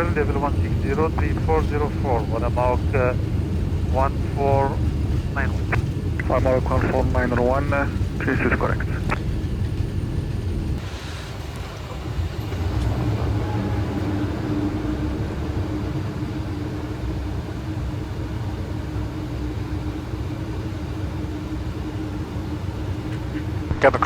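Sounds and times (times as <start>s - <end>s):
airflow and engines rumbling: 0.0s - 24.0s
low hum: 0.0s - 24.0s.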